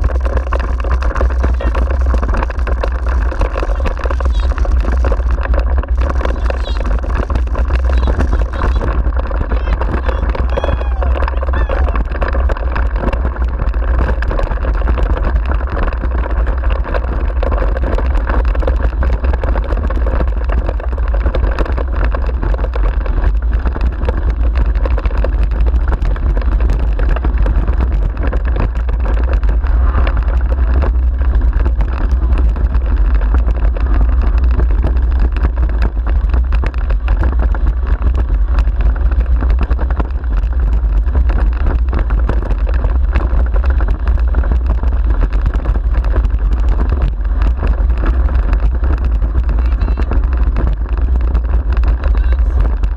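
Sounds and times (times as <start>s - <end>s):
wheels rolling over rough track: 0.0s - 52.9s
wind on microphone: 0.0s - 52.9s.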